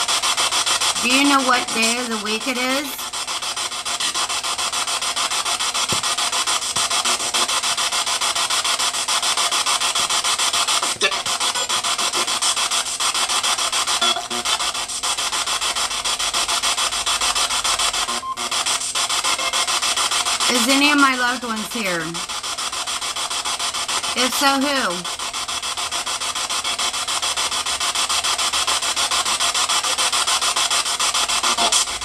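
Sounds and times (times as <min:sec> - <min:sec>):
pulsing radio static: 0:00.0 - 0:32.0.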